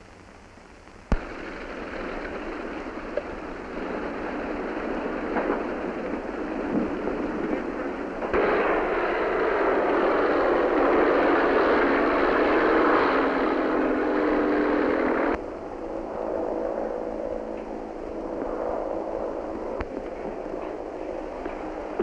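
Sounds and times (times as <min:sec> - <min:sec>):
aircraft engine drone: 0:00.0 - 0:22.0
aircraft engine roar: 0:00.0 - 0:22.0.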